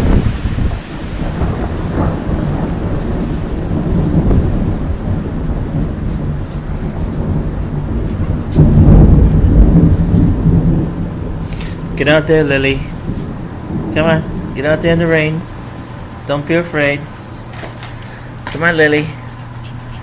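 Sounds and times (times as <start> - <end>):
thunder rumbling: 0.0 - 18.6
rain: 0.0 - 20.0.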